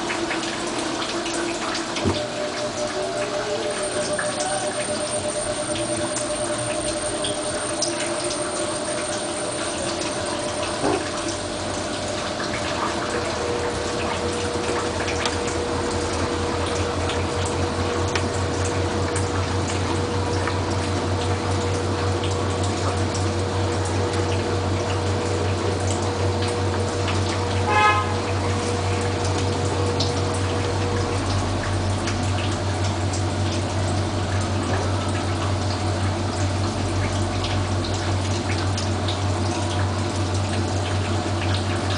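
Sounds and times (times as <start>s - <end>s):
washing machine low hum: 0.0s - 41.9s
water sloshing in washing machine drum: 0.0s - 41.9s.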